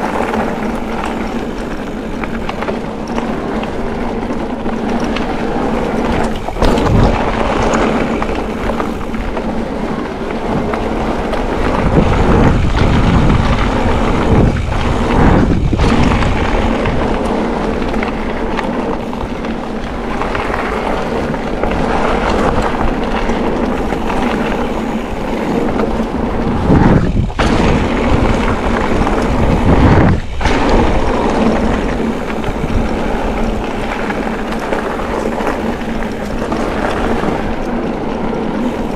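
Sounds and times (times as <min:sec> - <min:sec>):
bike knocking over bumps: 0:00.0 - 0:38.9
bike tyres crunching over gravel: 0:00.0 - 0:38.9
wind buffeting microphone: 0:00.0 - 0:38.9.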